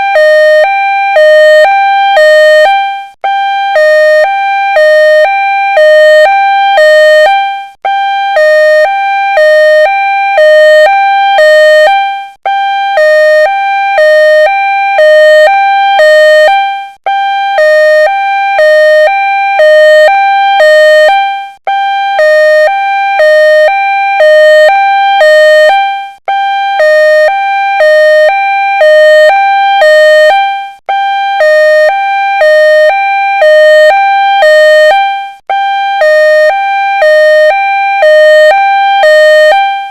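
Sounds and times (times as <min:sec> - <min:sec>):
two-tone ambulance siren: 0:00.0 - 0:39.9.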